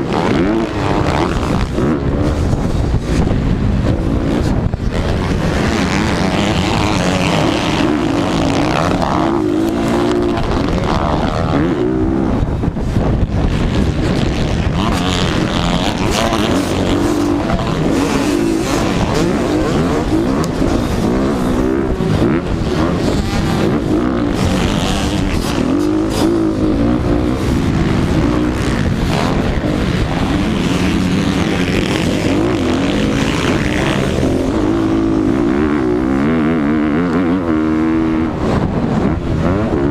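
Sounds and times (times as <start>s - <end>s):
dirt bike engine revving: 0.0s - 39.9s
wind noise on microphone: 0.0s - 39.9s.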